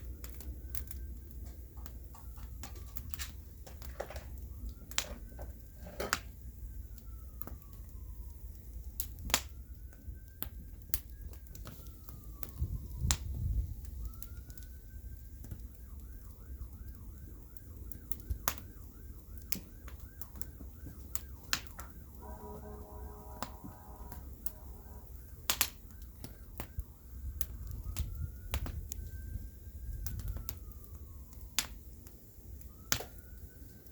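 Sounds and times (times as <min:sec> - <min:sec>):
bonfire crackling and popping: 0:00.0 - 0:33.9
distant emergency siren: 0:00.0 - 0:33.9.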